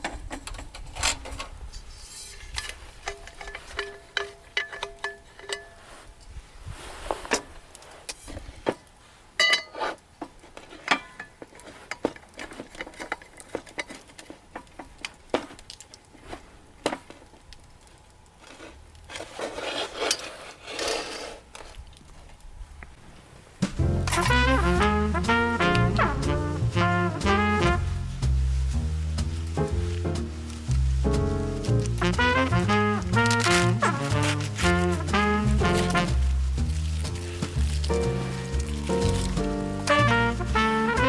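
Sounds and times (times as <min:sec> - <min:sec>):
soft rustling or scraping: 0:00.9 - 0:04.2, 0:05.4 - 0:17.3, 0:18.4 - 0:41.0.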